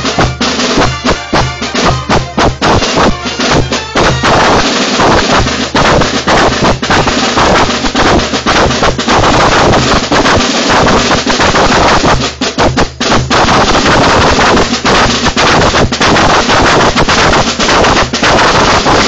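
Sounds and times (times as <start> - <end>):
dense crackling noise: 0.0 - 19.0
distorted carnival drum music: 0.0 - 19.0.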